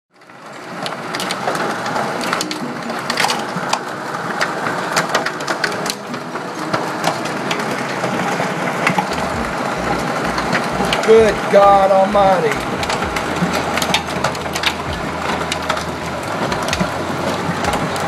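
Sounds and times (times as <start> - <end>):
hail pelting pavement and car: 0.2 - 18.0.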